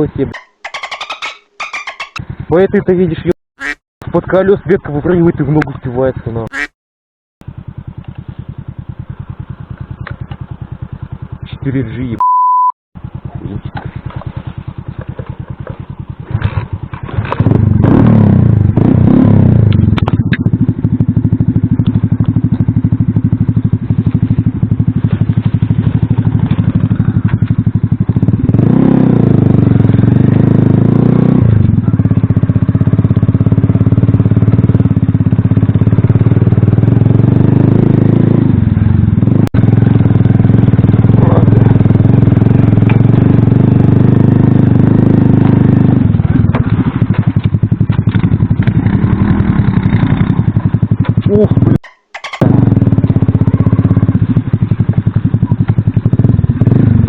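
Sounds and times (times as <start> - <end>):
motorcycle engine revving: 2.0 - 3.3, 7.4 - 12.2, 13.0 - 57.0.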